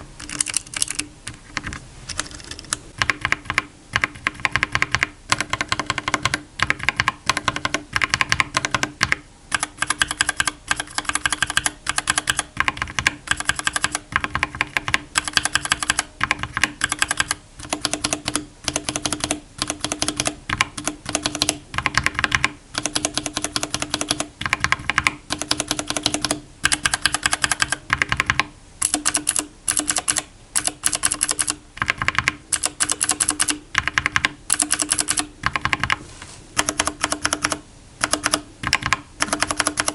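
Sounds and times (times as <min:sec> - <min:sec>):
mechanical keyboard typing: 0:00.2 - 0:36.0, 0:36.6 - 0:39.9.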